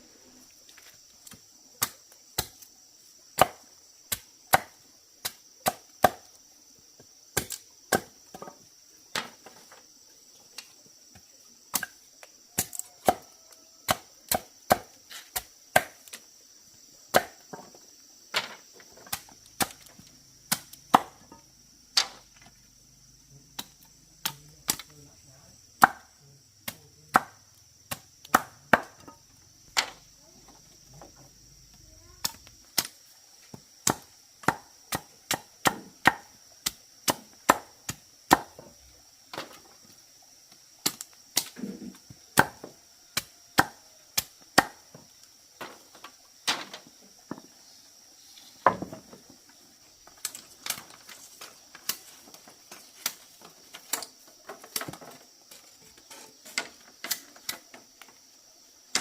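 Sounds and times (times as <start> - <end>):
high insect buzz: 0.0 - 59.0.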